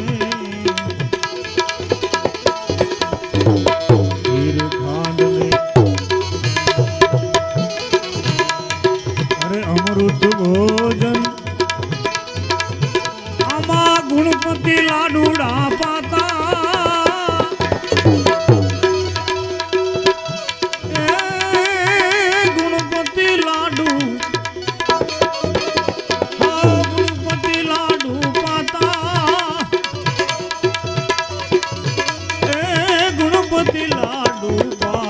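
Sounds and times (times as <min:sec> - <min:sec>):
sustained wavering melody: 0:00.0 - 0:35.0
tabla rhythm: 0:00.0 - 0:35.0.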